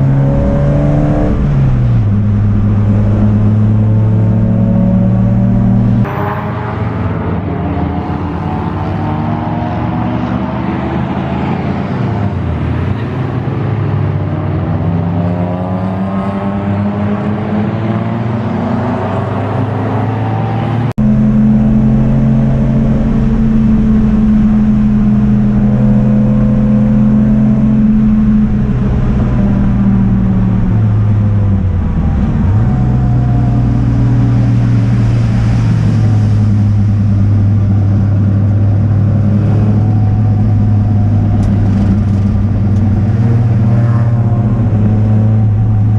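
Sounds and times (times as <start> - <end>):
race car engine at full throttle: 0.0 - 45.9.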